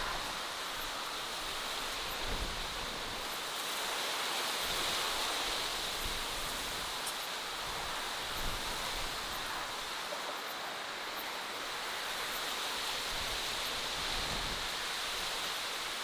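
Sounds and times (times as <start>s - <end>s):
even rushing hiss: 0.0s - 16.0s.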